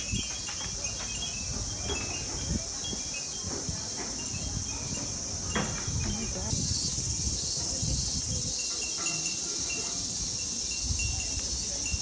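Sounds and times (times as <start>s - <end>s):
wind chimes tinkling: 0.0s - 12.0s.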